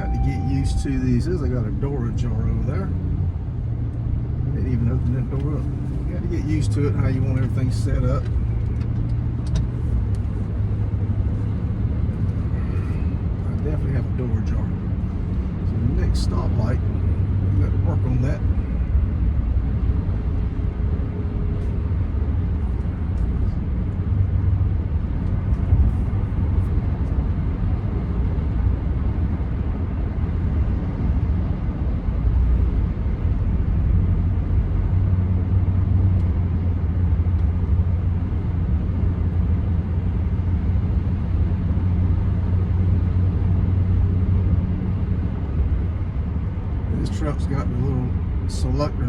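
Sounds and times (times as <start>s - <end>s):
car engine low rumble: 0.0s - 49.0s
tyres on the road: 0.0s - 49.0s.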